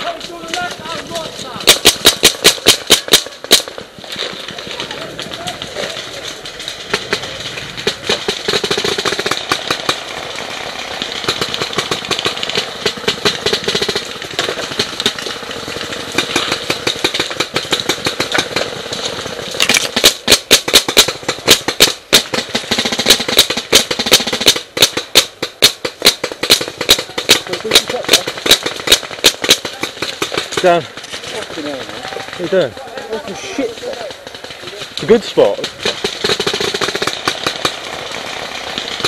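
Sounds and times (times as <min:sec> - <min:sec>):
loud sharp paintball shots nearby: 0:00.0 - 0:39.0
paintball markers firing: 0:00.0 - 0:39.0.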